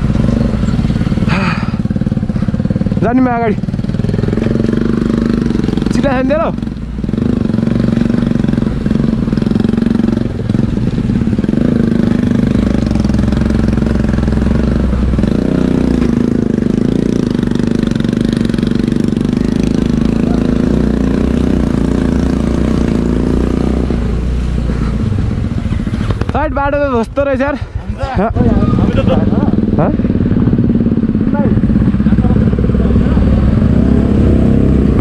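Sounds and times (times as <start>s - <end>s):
scooter engine humming: 0.0s - 26.3s, 27.8s - 35.0s
road rumble: 0.0s - 35.0s.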